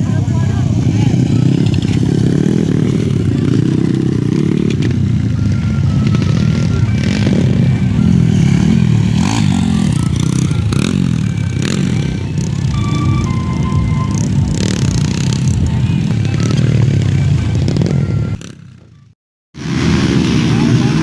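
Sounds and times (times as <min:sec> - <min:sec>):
music playing: 0:00.0 - 0:18.3
motorcycle engines revving: 0:00.0 - 0:21.0.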